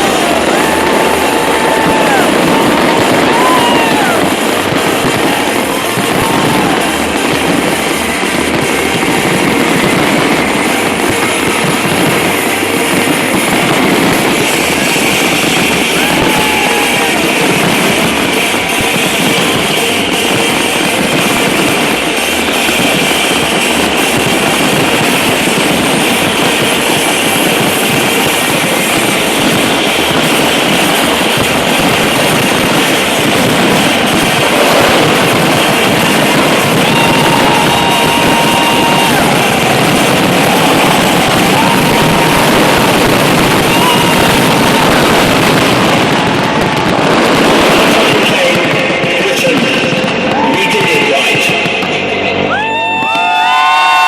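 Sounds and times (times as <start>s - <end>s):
firework whistles: 0.0s - 54.0s
fireworks crackling bursts: 0.0s - 54.0s.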